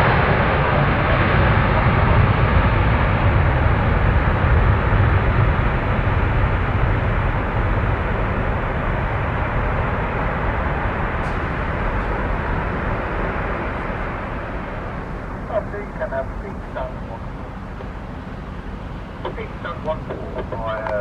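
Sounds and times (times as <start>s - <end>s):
jet airliner engine rumble: 0.0s - 21.0s.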